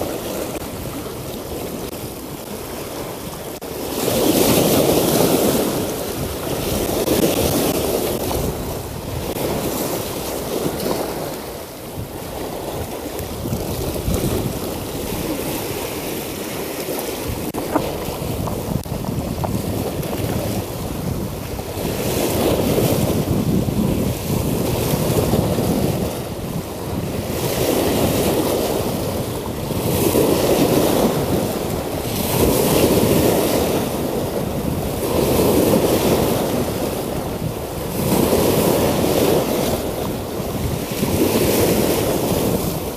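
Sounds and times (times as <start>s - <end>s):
sea waves washing over rocks: 0.0s - 42.9s
wind buffeting microphone: 0.0s - 42.9s.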